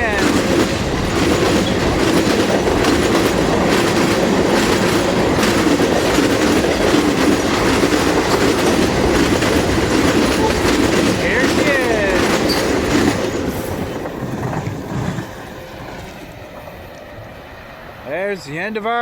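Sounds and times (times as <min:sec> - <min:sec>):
clickety-clack over rail joints: 0:00.0 - 0:18.8
steel wheels rumbling on rails: 0:00.0 - 0:19.0.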